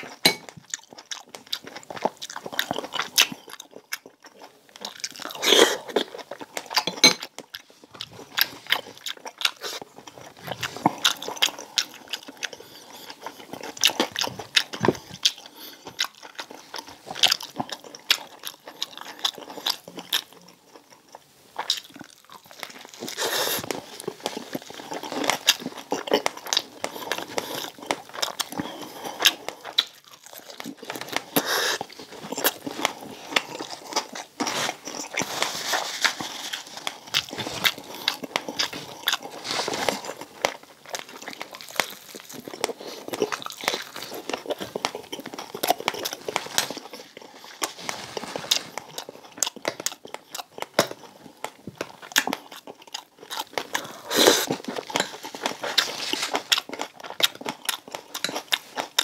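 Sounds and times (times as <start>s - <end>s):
crispy pork skin crunching: 0.0s - 59.0s.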